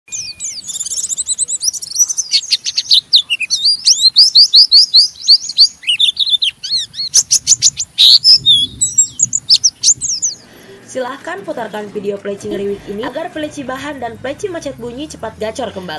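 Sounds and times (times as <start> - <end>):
bird chattering song: 0.1 - 15.9.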